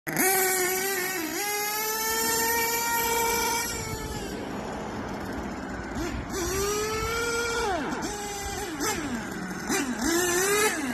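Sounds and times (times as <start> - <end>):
small engine revving with whine: 0.1 - 10.9.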